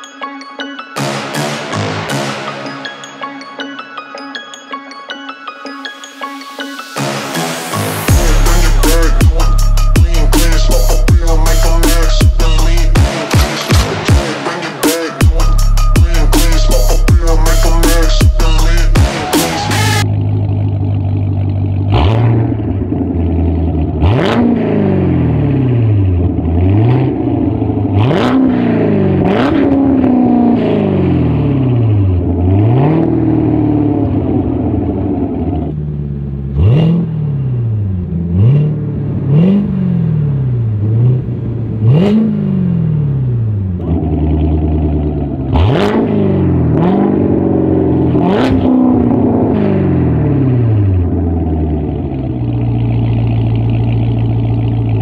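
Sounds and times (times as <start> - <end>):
car engine idling and revving: 6.2 - 55.0.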